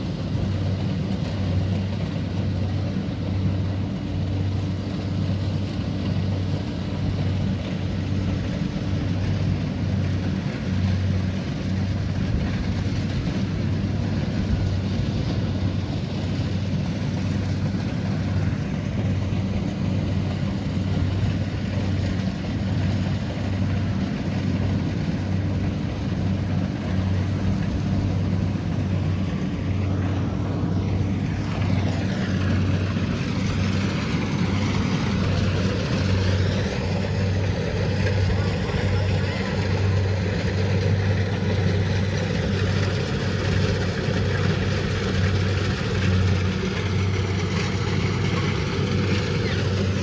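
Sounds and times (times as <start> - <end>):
combine harvester engine hum: 0.0 - 50.0.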